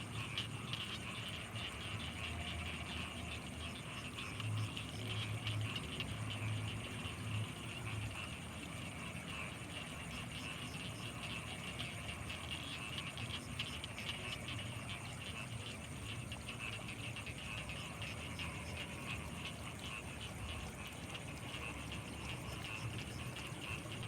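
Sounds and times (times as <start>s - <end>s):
frogs croaking in chorus: 0.0s - 24.0s.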